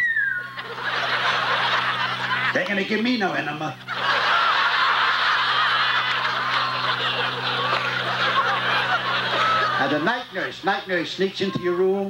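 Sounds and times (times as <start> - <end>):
low electrical hum: 0.0 - 12.0
audience laughing: 0.4 - 11.0.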